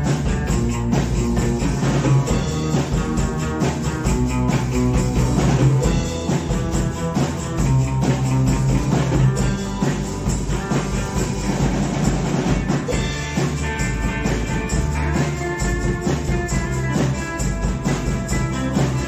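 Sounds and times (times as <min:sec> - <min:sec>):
drum kit beat: 0:00.0 - 0:19.0
electric bass: 0:00.0 - 0:19.0
electric guitar: 0:00.0 - 0:19.0.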